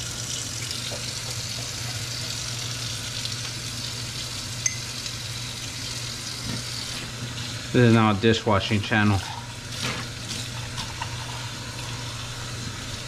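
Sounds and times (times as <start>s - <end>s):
potatoes frying in oil: 0.0s - 13.0s.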